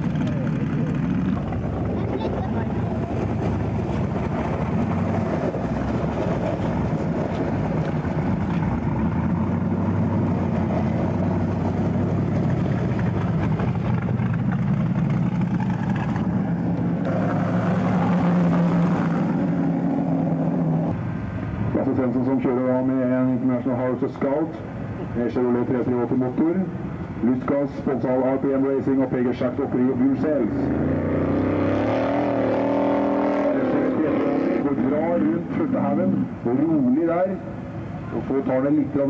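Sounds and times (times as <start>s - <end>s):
off-road car engine running: 0.0s - 39.0s.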